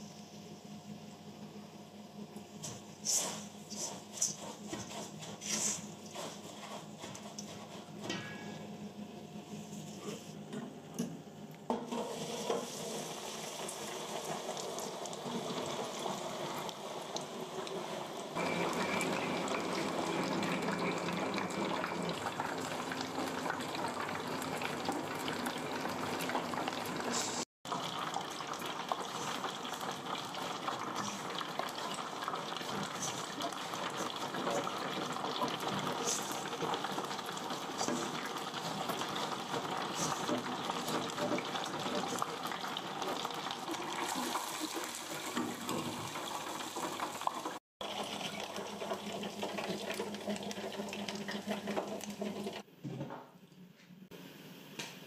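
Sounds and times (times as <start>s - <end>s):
chicken deep-frying in hot oil: 2.4s - 8.6s, 11.7s - 52.7s.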